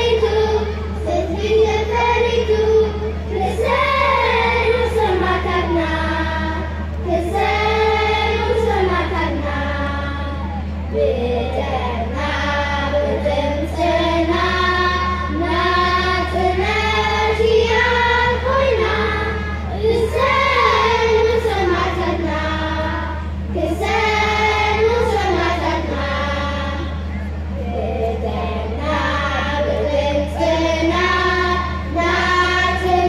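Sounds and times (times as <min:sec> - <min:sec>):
children's choir singing: 0:00.0 - 0:33.0
steady low hum: 0:00.0 - 0:33.0.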